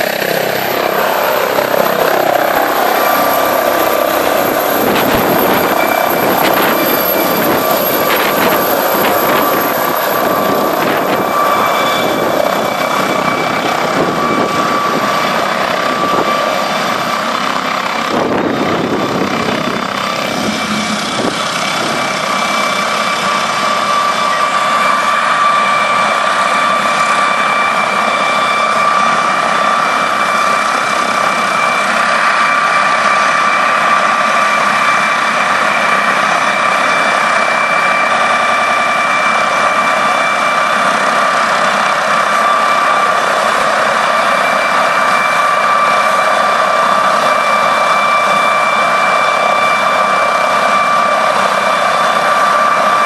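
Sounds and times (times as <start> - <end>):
helicopter rotor rush: 0.0 - 53.0
helicopter turbine whine: 0.0 - 53.0.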